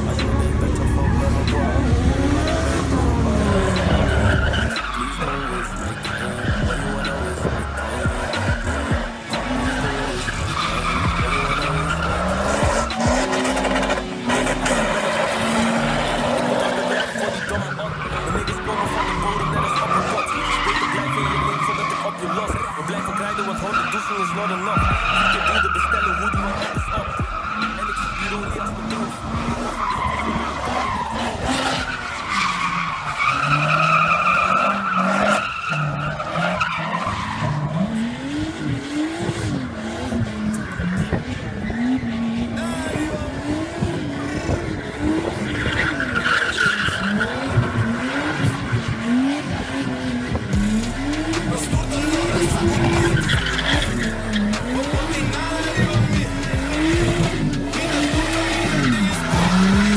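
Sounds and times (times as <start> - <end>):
car engine revving: 0.0 - 59.9
tires squealing: 0.0 - 59.9.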